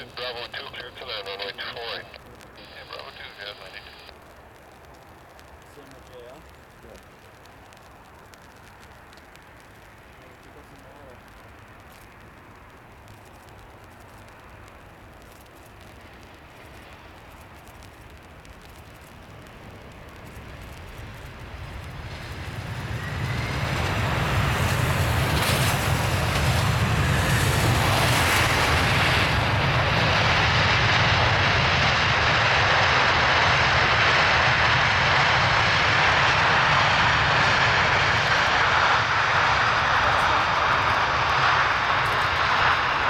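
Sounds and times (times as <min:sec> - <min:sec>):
jet engines reverse thrust roar: 0:00.0 - 0:43.0.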